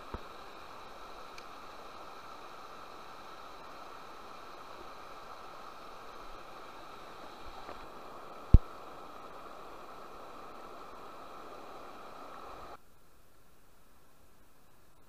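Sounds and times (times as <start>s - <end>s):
river running over rocks: 0.0s - 12.8s.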